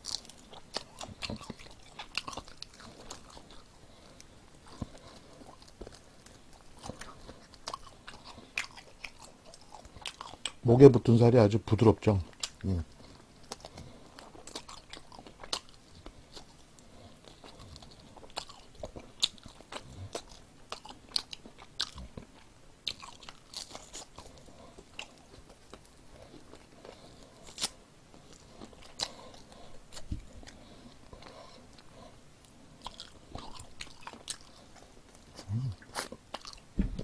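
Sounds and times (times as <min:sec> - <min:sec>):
wet chewing: 0:00.0 - 0:10.6, 0:12.2 - 0:37.0
crunching fried chicken: 0:00.0 - 0:11.0, 0:11.8 - 0:30.6, 0:32.8 - 0:36.6.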